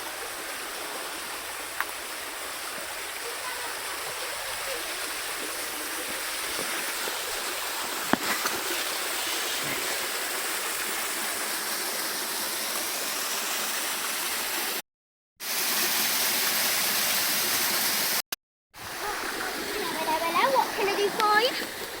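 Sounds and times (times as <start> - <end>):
waterfall and stream rushing: 0.0 - 14.8, 15.4 - 18.2, 18.8 - 22.0.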